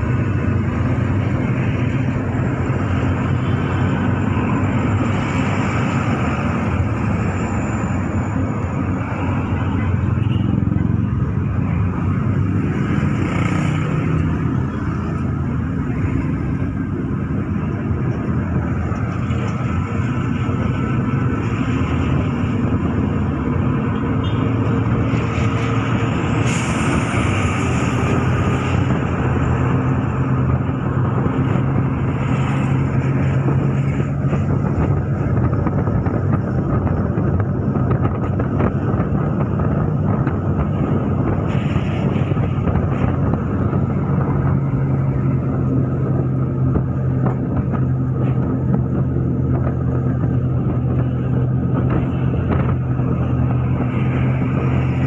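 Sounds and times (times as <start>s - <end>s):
car engine hum and road rumble: 0.0s - 55.0s.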